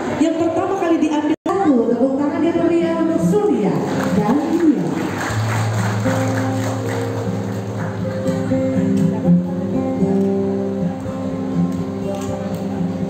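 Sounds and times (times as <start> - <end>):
acoustic guitar chords: 2.5 - 13.0.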